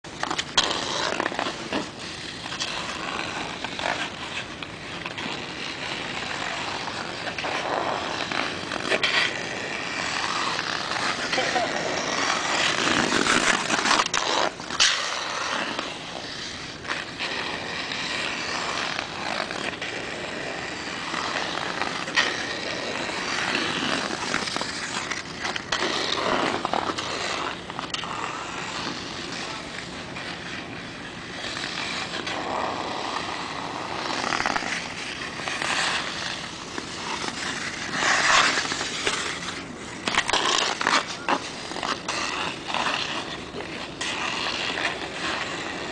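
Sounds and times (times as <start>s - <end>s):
ice skate blades scraping ice: 0.0s - 45.9s.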